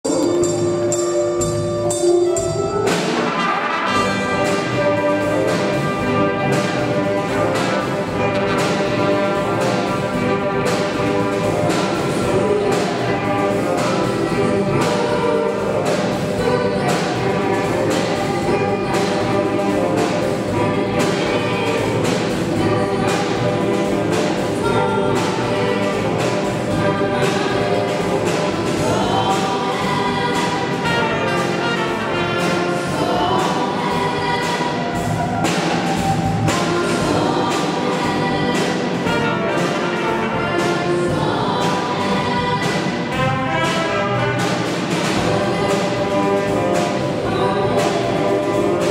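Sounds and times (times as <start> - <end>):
band playing: 0.0 - 48.9
youth choir singing: 3.2 - 48.9.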